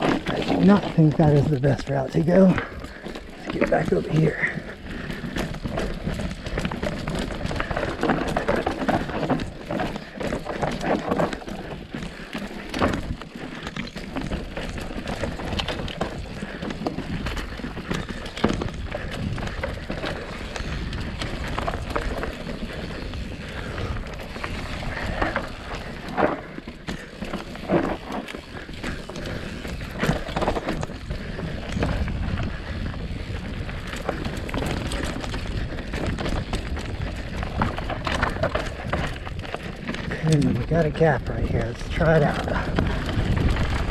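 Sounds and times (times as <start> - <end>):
bike rattling: 0.0 - 43.9
bike tyres rolling over dirt: 0.0 - 43.9.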